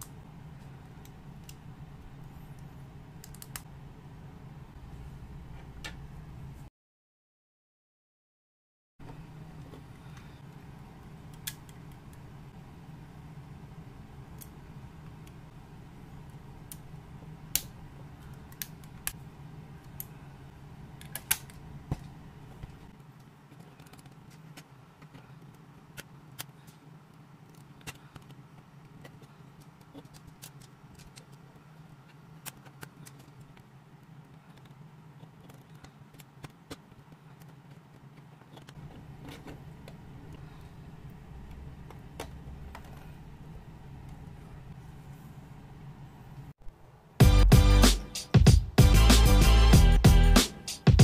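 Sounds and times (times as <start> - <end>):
steady low hum: 0.0 - 6.7, 9.0 - 51.0.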